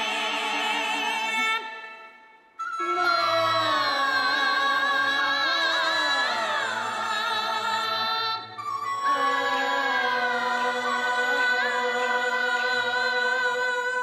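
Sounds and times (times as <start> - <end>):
opera singing: 0.0 - 1.8, 2.6 - 14.0.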